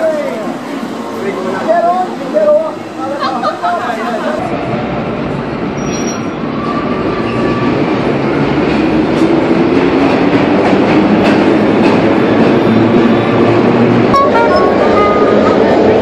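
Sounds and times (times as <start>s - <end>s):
subway train rumbling on rails: 0.0s - 16.0s.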